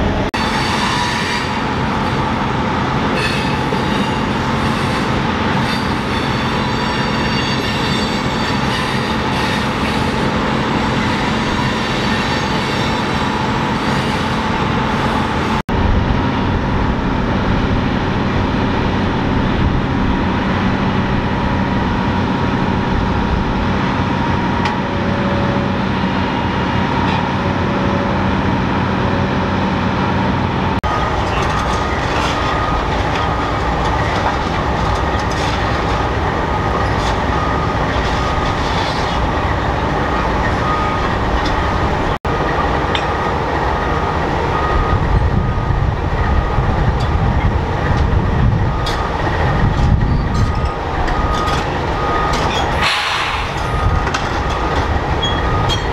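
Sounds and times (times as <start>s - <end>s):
heavy machinery diesel engines: 0.0s - 55.9s.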